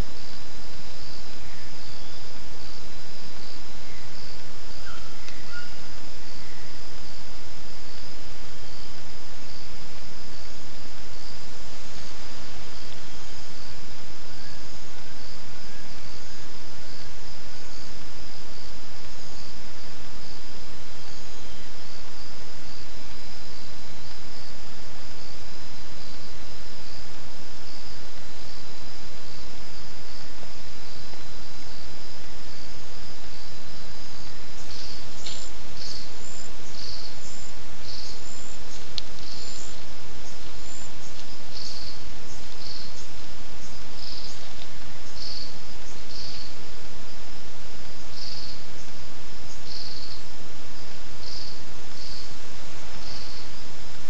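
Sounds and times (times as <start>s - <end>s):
constant hiss: 0.0s - 54.0s
forest insect chorus: 0.0s - 54.0s.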